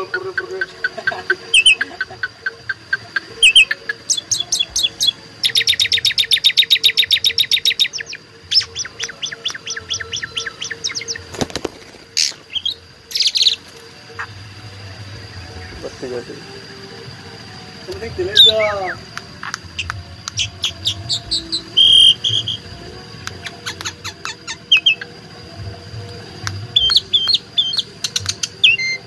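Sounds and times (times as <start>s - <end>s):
starling singing: 0.0s - 29.0s.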